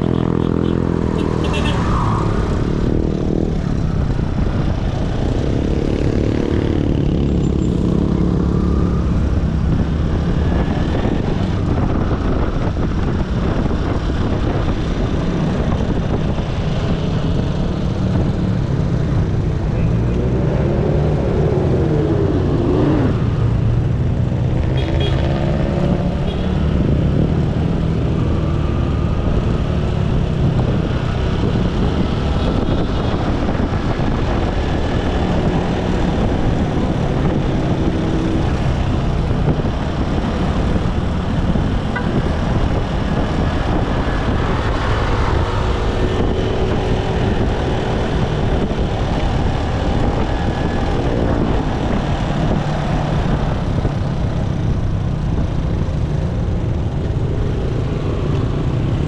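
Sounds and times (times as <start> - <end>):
passing traffic: 0.0 - 59.0
road and wind rumble: 0.0 - 59.0.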